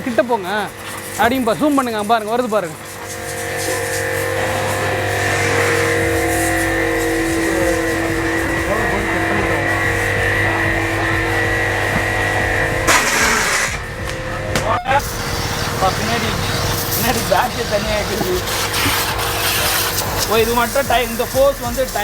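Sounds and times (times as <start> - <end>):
pressure washer motor humming: 0.0 - 22.0
water jet spraying: 0.0 - 22.0.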